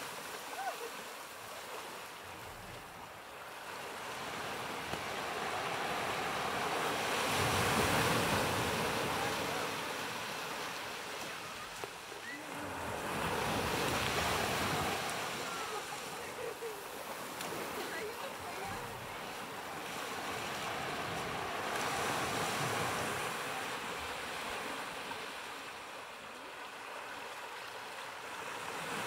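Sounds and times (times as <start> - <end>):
small waves breaking on beach: 0.0 - 29.0.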